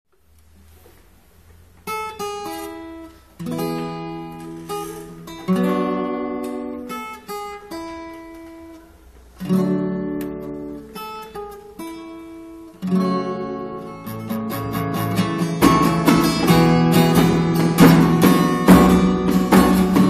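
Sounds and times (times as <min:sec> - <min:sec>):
acoustic guitar music: 0:00.2 - 0:20.0.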